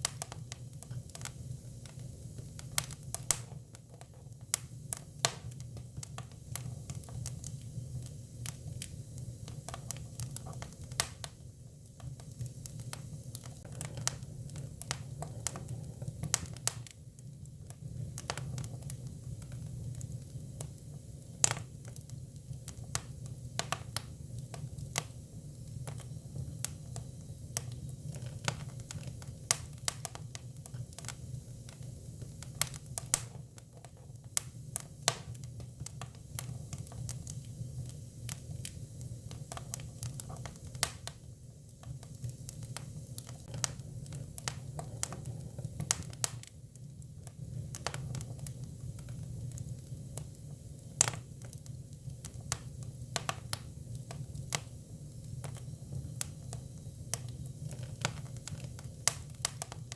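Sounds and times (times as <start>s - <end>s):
firewood crackling and popping: 0.0s - 59.9s.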